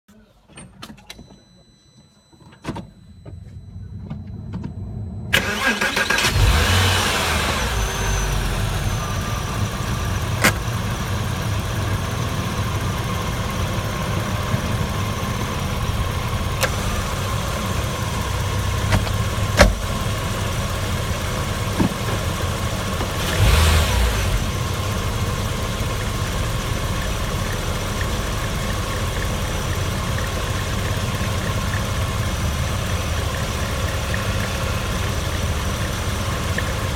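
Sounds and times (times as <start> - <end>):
car engine running: 3.2 - 36.9.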